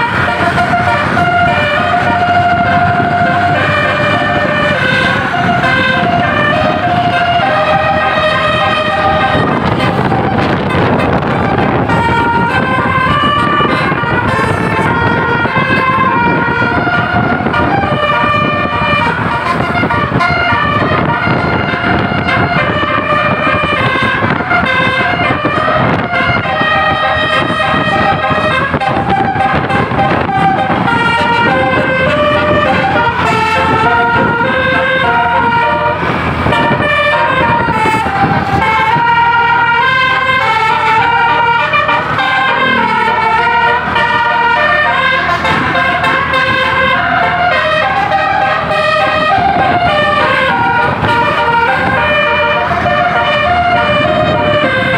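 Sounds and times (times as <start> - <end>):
engine rumble: 0.0 - 54.9
multi-tone musical air horn: 0.0 - 54.9.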